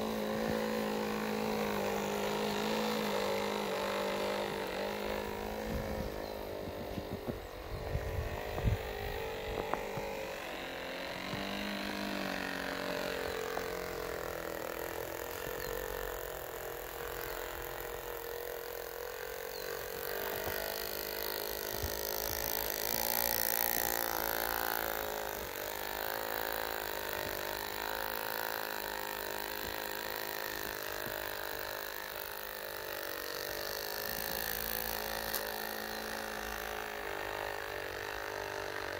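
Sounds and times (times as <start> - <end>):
electric motors whining: 0.0 - 38.9.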